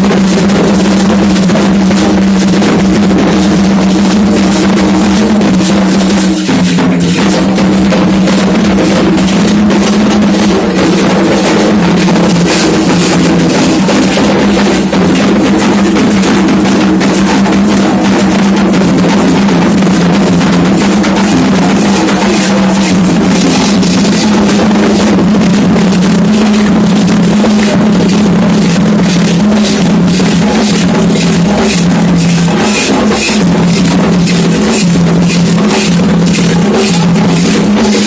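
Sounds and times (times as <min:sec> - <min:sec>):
hand drums drumming: 0:00.0 - 0:38.0.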